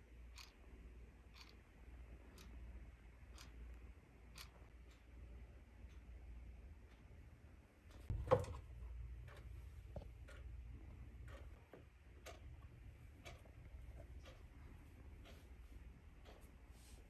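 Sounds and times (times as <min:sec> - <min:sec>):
clock ticking faintly: 0:00.0 - 0:17.0.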